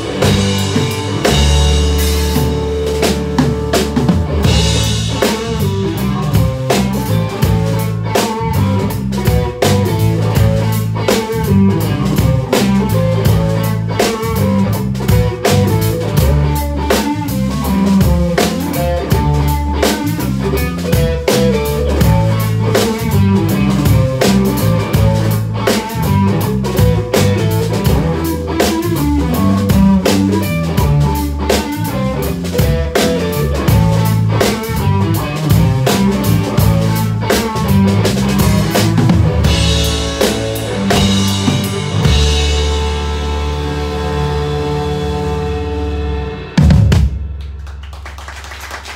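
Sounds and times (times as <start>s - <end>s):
drums: 0.0s - 48.9s
live rock band playing: 0.0s - 48.9s.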